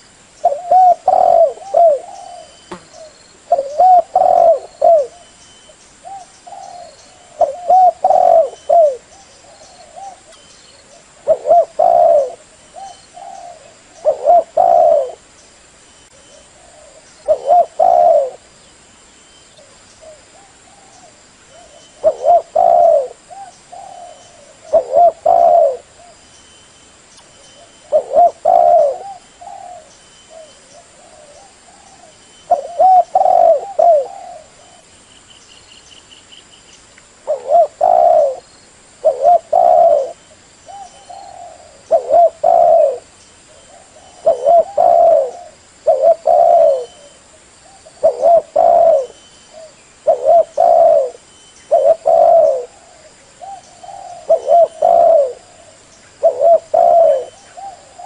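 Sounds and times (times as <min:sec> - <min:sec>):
dove cooing: 0:00.0 - 0:05.4, 0:06.0 - 0:15.3, 0:16.1 - 0:18.5, 0:19.6 - 0:26.2, 0:27.6 - 0:34.9, 0:37.2 - 0:58.0.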